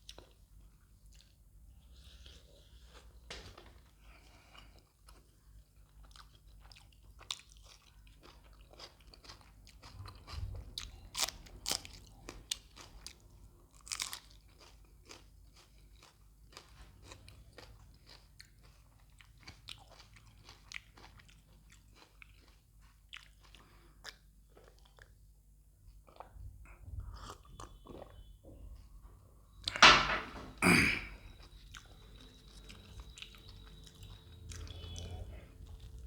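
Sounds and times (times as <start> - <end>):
person chewing crisp food: 0.0 - 3.2, 4.0 - 26.4, 27.0 - 28.9, 31.0 - 36.0.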